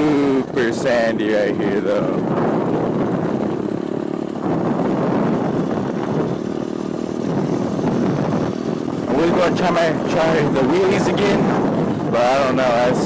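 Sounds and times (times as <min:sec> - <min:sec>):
small motorbike engine running: 0:00.1 - 0:12.1.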